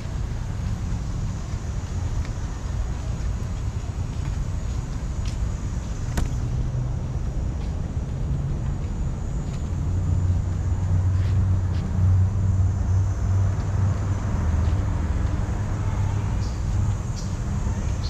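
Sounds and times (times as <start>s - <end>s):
road traffic rumble: 0.0s - 18.0s
vehicle engine drone: 0.0s - 18.0s.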